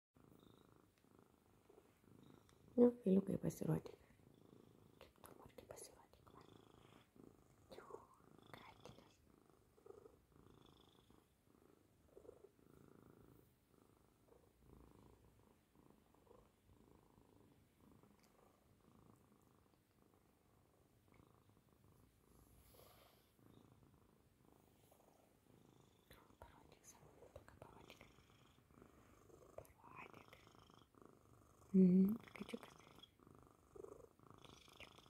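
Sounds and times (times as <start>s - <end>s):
cat purring: 0.2s - 35.0s.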